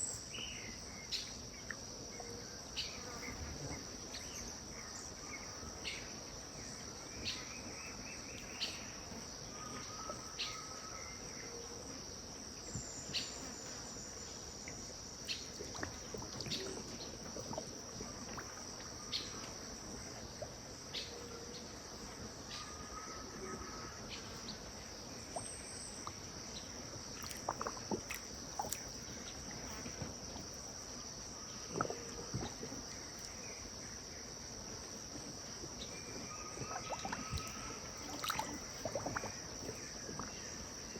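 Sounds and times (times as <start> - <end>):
faint river water: 0.0 - 40.9
insects trilling: 0.0 - 40.9.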